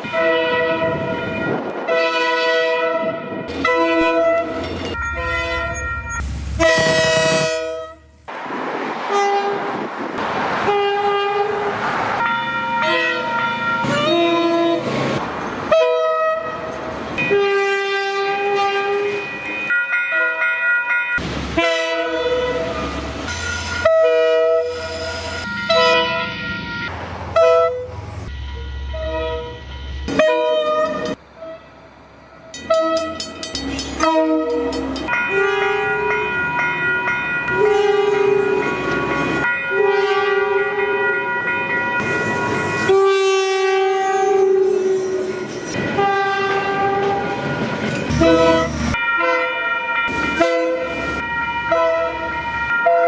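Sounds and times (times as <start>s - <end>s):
locomotive horns: 0.0s - 8.2s, 10.6s - 19.3s, 21.6s - 26.4s, 27.3s - 31.8s, 32.5s - 36.4s, 37.5s - 41.1s, 42.3s - 53.0s.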